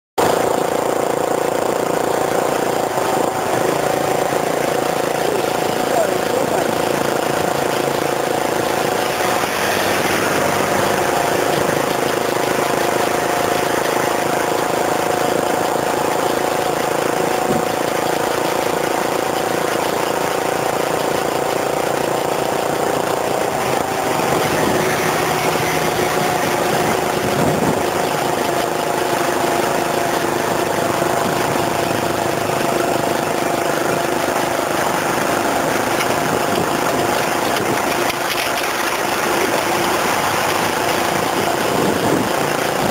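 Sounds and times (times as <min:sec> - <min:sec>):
vehicle engine running: 0:00.2 - 0:42.9.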